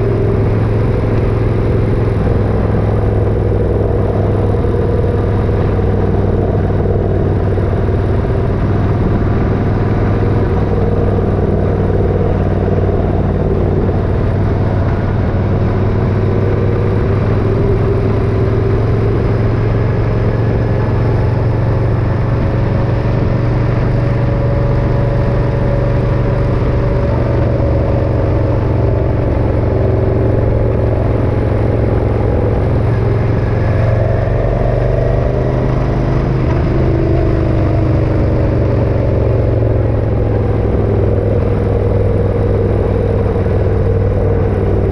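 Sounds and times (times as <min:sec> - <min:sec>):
motorcycle engine droning: 0:00.0 - 0:44.9.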